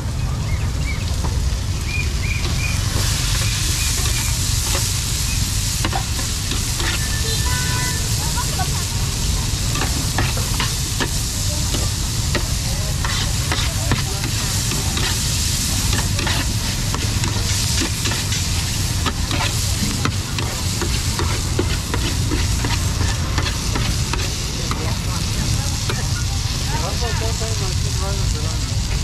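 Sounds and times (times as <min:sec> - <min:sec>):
food sizzling in hot oil: 0:00.4 - 0:29.0.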